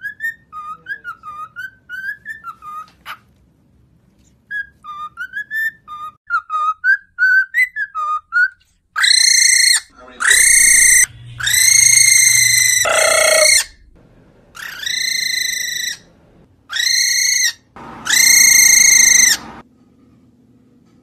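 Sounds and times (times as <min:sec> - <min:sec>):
cockatiel calling: 0:00.0 - 0:03.3, 0:04.5 - 0:13.9, 0:14.6 - 0:16.1, 0:16.7 - 0:19.6.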